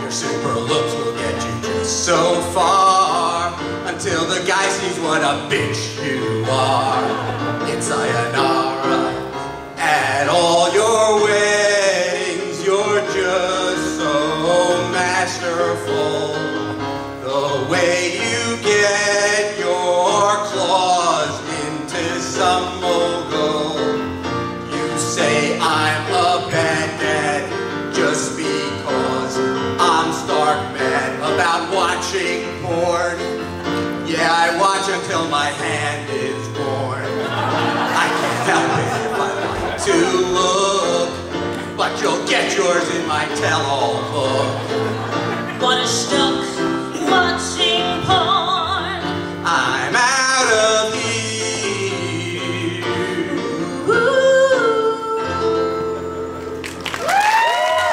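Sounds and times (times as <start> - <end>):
man singing: 0.0 - 48.3, 49.3 - 56.0.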